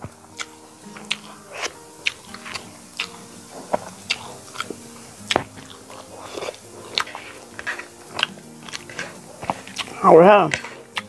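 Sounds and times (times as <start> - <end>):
chewing and smacking: 0.0 - 11.0.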